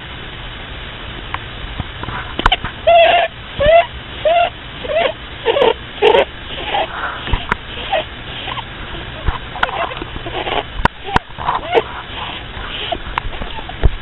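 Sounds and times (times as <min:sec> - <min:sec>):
rabbit snoring squeaks: 0:02.4 - 0:13.9.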